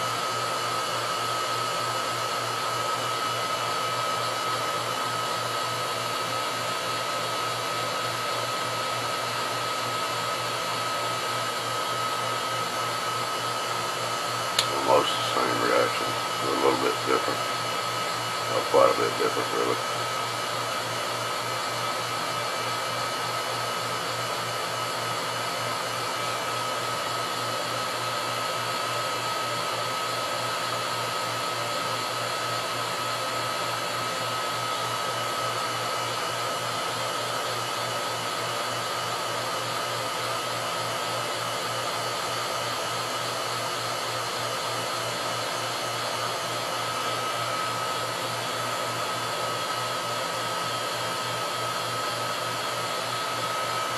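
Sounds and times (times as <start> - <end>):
vacuum pump running: 0.0 - 53.9.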